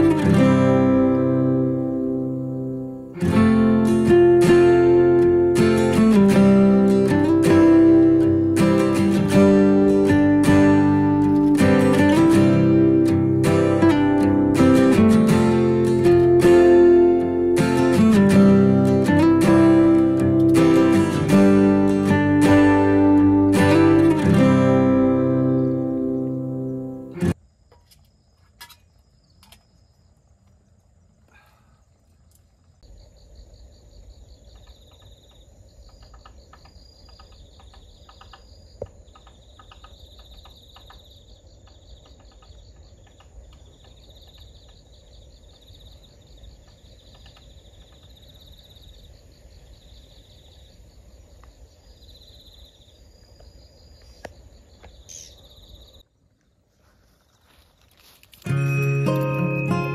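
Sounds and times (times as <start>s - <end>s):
insects chirping in trills: 0.0s - 59.9s.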